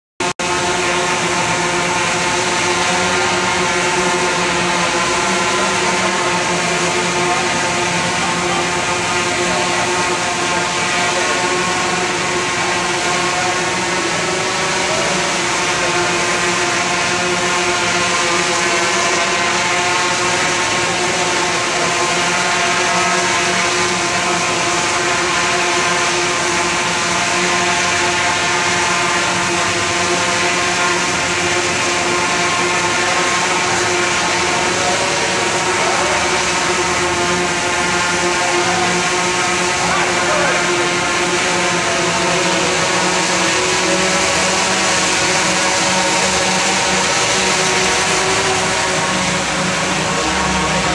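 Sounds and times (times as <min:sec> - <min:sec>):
drone propellers humming: 0:00.3 - 0:50.9.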